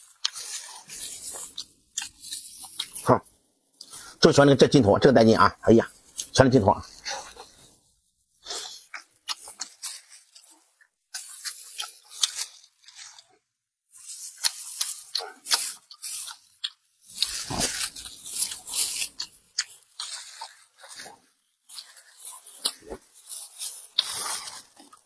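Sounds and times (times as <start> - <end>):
crunchy chewing and gnawing: 0.0 - 4.7, 5.9 - 7.8, 8.4 - 25.0.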